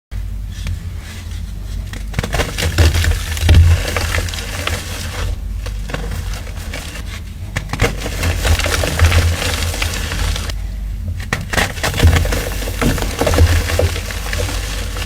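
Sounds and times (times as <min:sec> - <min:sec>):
chalk being crushed: 0:00.5 - 0:10.6, 0:11.3 - 0:15.0.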